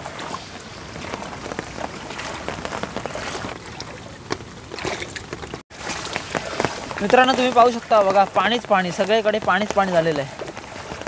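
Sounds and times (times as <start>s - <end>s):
raindrops ticking: 0.9s - 11.0s.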